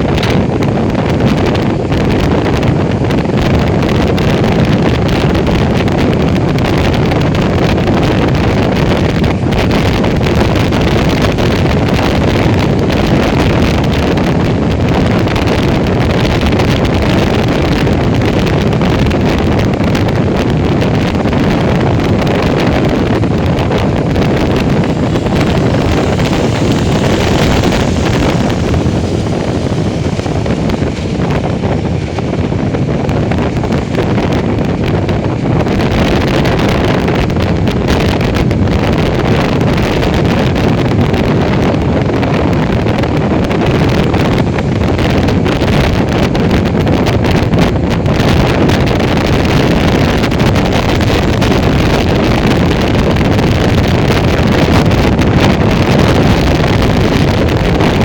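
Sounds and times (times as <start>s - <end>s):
motorcycle engine and road noise: 0.0s - 58.0s
wind buffeting microphone: 0.0s - 58.0s.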